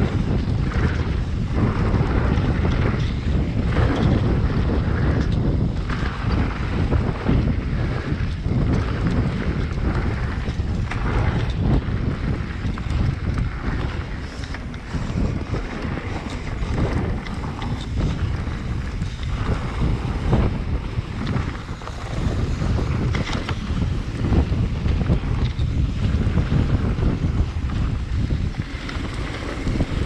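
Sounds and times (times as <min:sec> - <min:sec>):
tyre noise on dirt: 0:00.0 - 0:30.0
wind buffeting microphone: 0:00.0 - 0:30.0.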